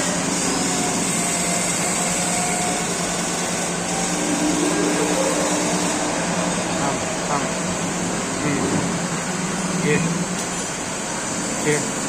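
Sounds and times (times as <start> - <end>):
machine whirring and humming: 0.0 - 12.0.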